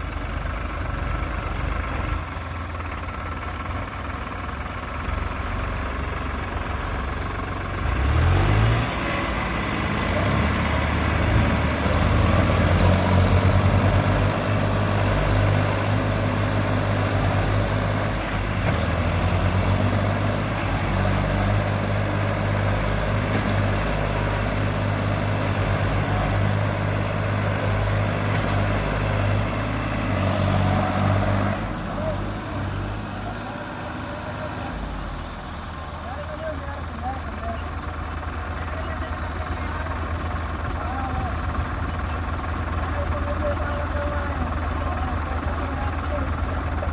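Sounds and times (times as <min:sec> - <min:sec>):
diesel tractor engine revving: 0:00.0 - 0:46.9.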